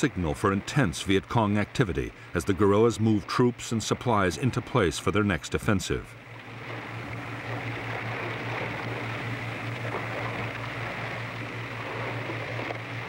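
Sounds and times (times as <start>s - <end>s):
boat engine droning: 0.0s - 13.0s
water rushing: 0.0s - 13.0s.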